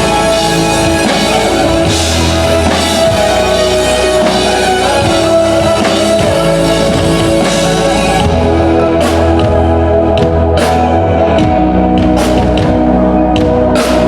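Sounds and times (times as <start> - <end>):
pop-rock band playing: 0.0 - 14.0.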